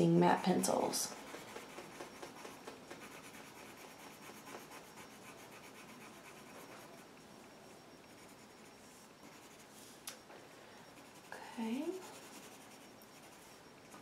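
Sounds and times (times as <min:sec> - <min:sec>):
coloured pencil scratching on paper: 0:00.2 - 0:07.1, 0:08.1 - 0:09.8, 0:11.0 - 0:14.0.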